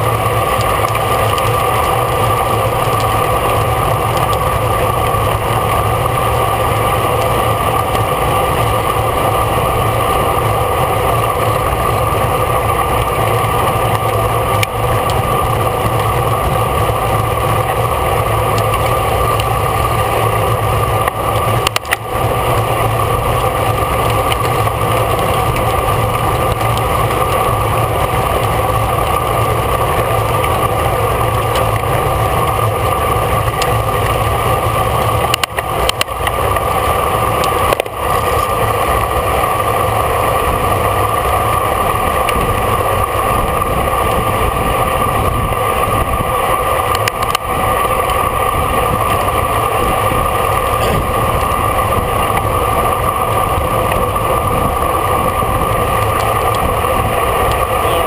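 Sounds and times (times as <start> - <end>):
bicycle road noise: 0.0 - 58.0
rushing wind: 0.0 - 58.0.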